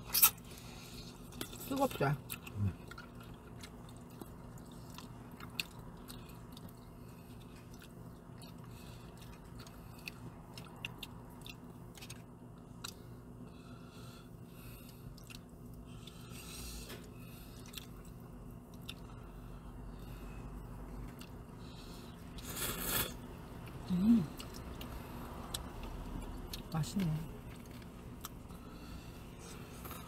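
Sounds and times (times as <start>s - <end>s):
chewing and mouth noises: 0.0s - 13.3s, 14.4s - 30.0s
steady low hum: 0.0s - 30.0s.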